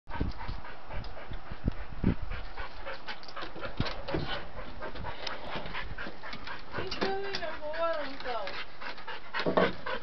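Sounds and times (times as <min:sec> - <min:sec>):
dog panting: 0:00.1 - 0:10.0.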